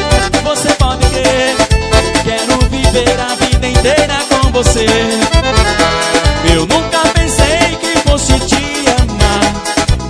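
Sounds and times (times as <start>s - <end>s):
electronic keyboard melody: 0.0s - 10.0s
fast drum beat: 0.0s - 10.0s.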